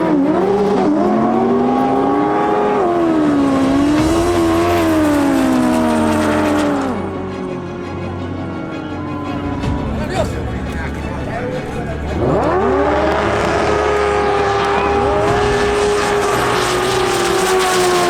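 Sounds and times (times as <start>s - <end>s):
jet ski engine revving: 0.0s - 7.9s, 10.5s - 18.0s.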